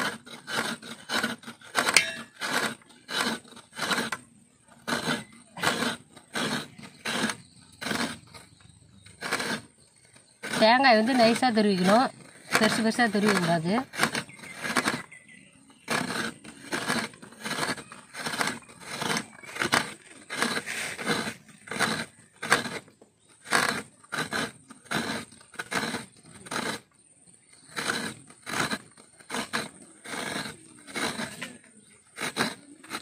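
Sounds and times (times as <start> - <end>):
coconut scraping on metal grater: 0.0 - 33.0.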